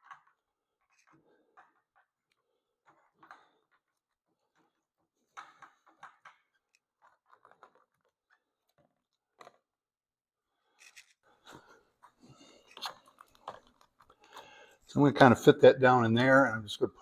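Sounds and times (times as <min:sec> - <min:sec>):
clicks and rustles of handling parts: 0:00.0 - 0:09.8, 0:10.8 - 0:15.0.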